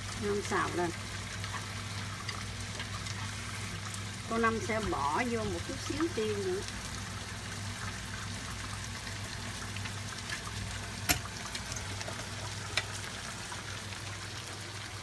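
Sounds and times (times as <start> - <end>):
sauce sizzling in a frying pan: 0.0 - 15.0.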